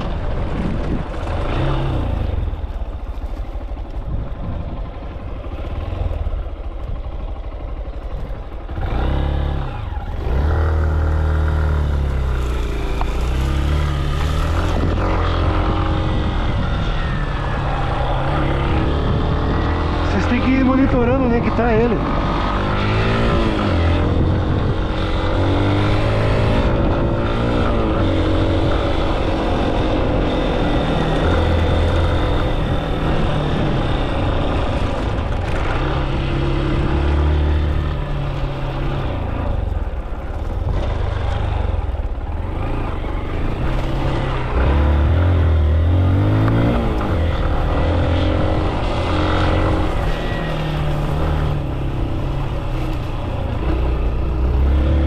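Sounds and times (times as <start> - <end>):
vehicle engine revving: 8.7 - 39.8, 40.6 - 55.0.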